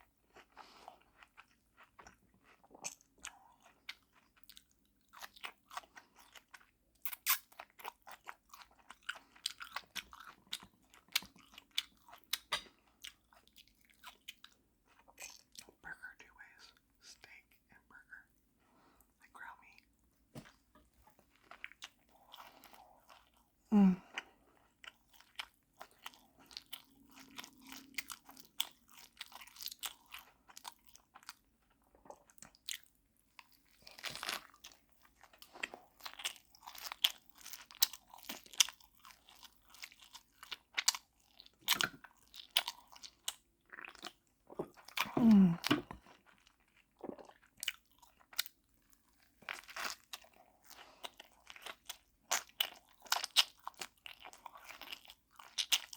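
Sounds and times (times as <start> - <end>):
wet chewing and crunching: 0.0 - 16.8, 19.0 - 55.9.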